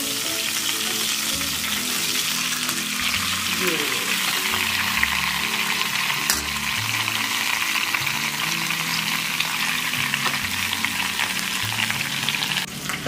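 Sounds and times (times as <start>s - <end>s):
meat sizzling in fat: 0.0s - 13.0s.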